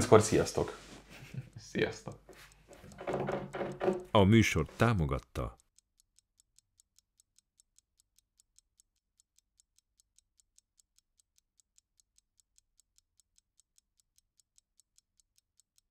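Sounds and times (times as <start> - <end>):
clock ticking: 0.0 - 15.9.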